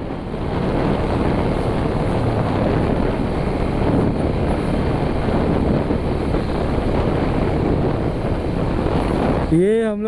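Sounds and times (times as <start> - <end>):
motorcycle engine running: 0.0 - 10.0
wind rush on microphone: 0.0 - 10.0.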